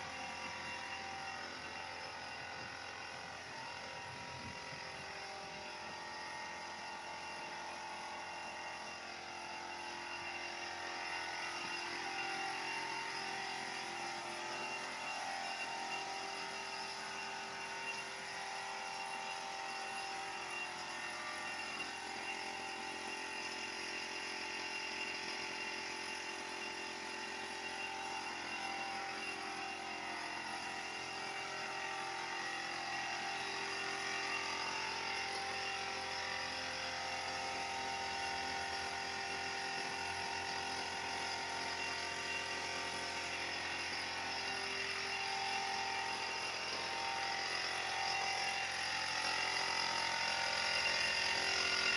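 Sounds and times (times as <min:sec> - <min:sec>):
machine drone: 0:00.0 - 0:51.9.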